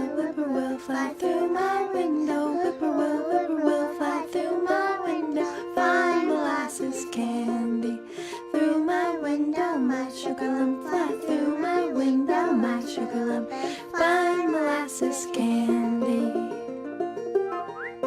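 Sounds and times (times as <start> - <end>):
person singing: 0.0 - 16.5
plucked ukulele: 0.0 - 18.0.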